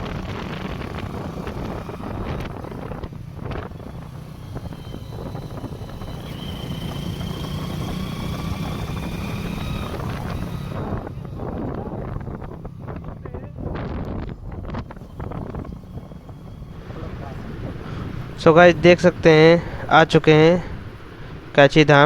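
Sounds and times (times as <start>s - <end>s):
motorcycle running: 0.0s - 22.0s
wind rushing over microphone: 0.0s - 22.0s.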